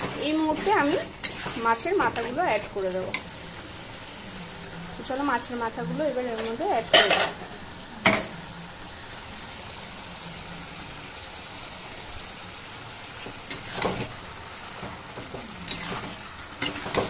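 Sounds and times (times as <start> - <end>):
curry sizzling in a wok: 0.0 - 17.0.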